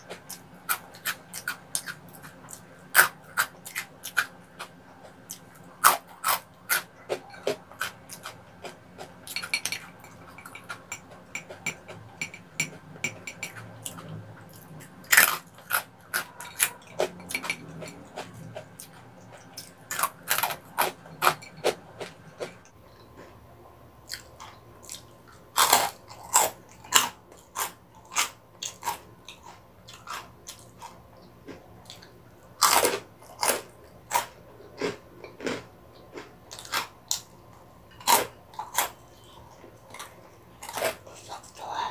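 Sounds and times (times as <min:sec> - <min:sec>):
crunching and chewing snacks: 0:00.0 - 0:12.0, 0:12.6 - 0:23.4, 0:24.0 - 0:41.9.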